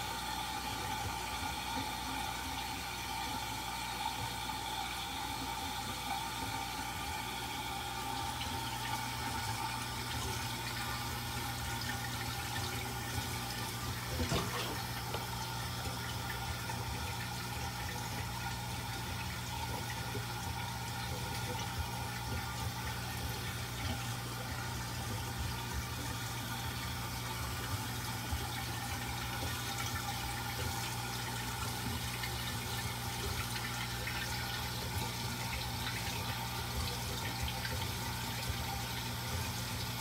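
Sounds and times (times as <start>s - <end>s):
water pouring into aquarium: 0.0s - 40.0s.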